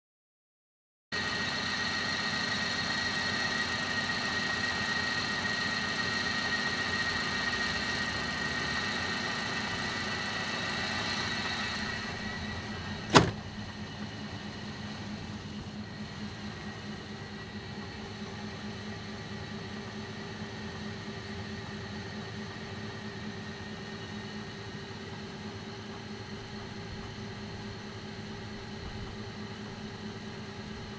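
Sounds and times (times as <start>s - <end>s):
bus engine running: 1.2s - 30.9s
steady high whine: 1.2s - 30.9s.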